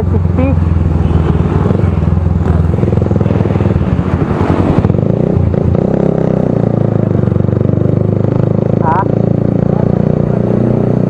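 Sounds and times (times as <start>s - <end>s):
motorcycle engine loud exhaust: 0.0s - 11.0s.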